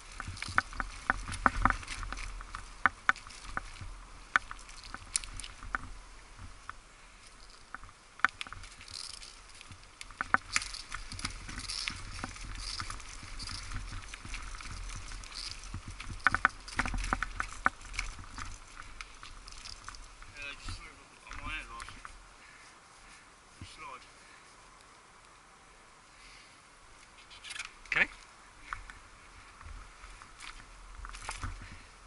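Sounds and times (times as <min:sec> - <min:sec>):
bicycle rattling on dirt trail: 0:00.0 - 0:24.5, 0:27.4 - 0:32.0.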